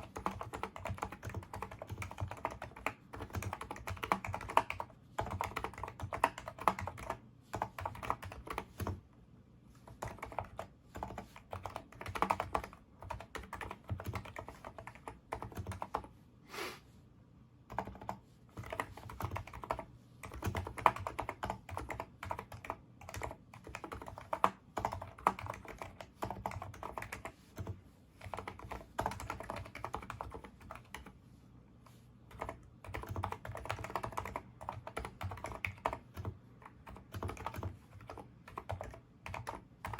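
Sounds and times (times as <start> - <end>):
keyboard typing: 0.0 - 9.1, 9.8 - 16.1, 17.7 - 31.2, 32.3 - 39.9.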